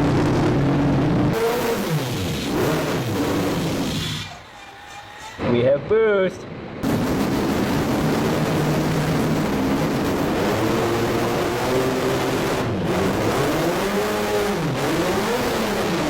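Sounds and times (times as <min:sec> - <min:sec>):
rotary engine revving: 0:00.0 - 0:04.7, 0:06.8 - 0:16.0.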